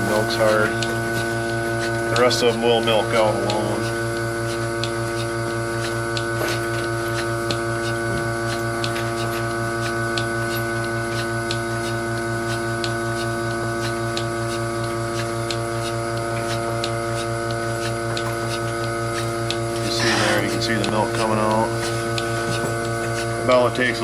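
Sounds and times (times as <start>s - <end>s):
pulsator clicking rhythmically: 0.0s - 24.0s
vacuum pump humming: 0.0s - 24.0s.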